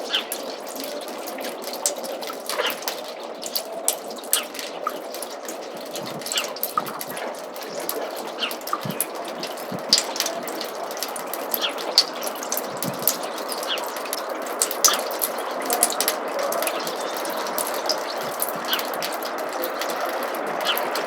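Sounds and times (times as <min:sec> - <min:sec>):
meltwater trickling in gutter: 0:00.0 - 0:21.0
water drips: 0:00.0 - 0:21.0.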